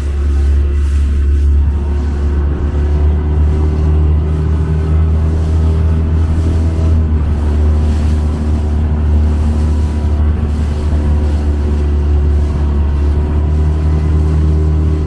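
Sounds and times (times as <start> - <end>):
motorboat engine droning: 0.0 - 15.0.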